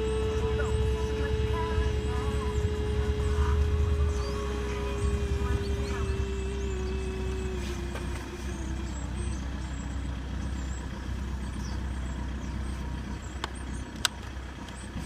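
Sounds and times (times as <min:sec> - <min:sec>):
diesel engine idling: 0:00.0 - 0:15.0
pump whine: 0:00.0 - 0:15.0.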